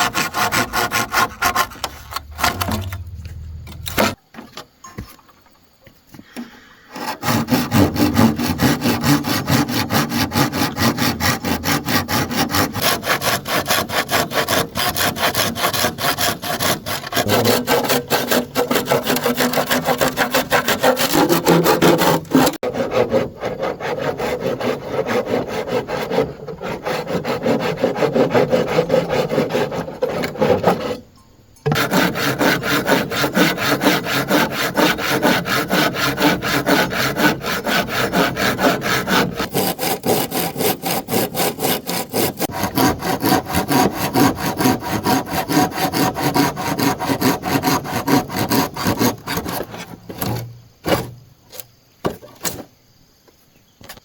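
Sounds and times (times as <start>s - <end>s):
hand saw cutting bamboo: 0.0s - 3.1s, 3.7s - 4.2s, 6.9s - 31.1s, 31.7s - 51.2s.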